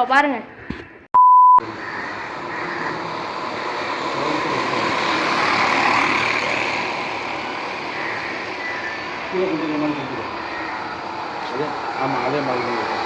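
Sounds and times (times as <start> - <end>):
bicycle exhaust gadget buzzing: 1.6 - 13.0.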